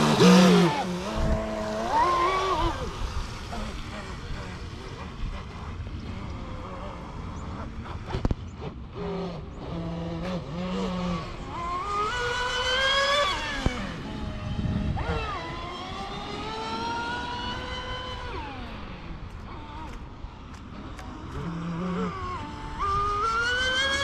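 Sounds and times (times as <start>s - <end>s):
rc boat motor whine: 0.0s - 24.0s.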